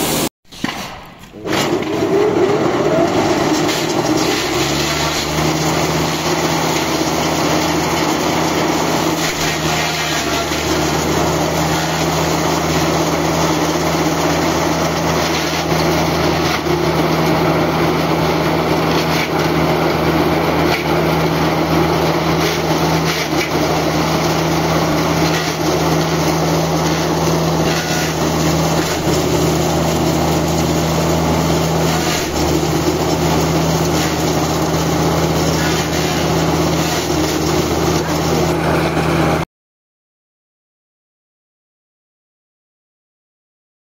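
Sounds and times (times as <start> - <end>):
hammer mill grinder running: 1.3 - 39.4.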